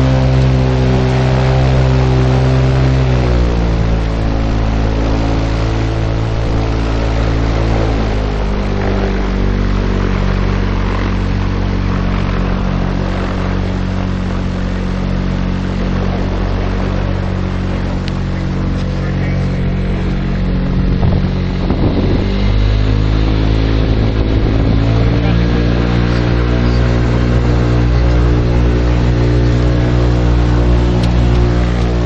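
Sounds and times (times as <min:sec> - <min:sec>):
aircraft piston engine running: 0:00.0 - 0:32.0.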